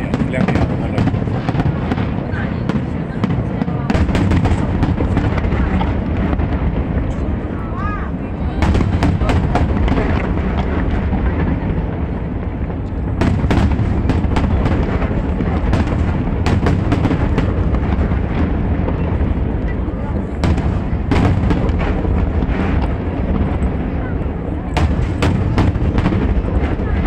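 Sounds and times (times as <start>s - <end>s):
sharp firework bangs and crackles: 0.0s - 27.0s.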